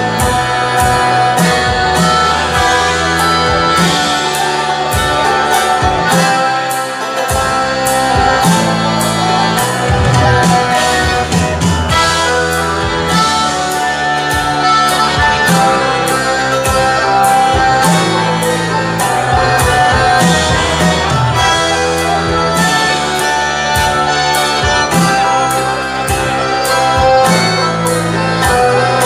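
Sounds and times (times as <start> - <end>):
live bluegrass band playing: 0.0 - 29.0
steady drum beat: 0.0 - 29.0.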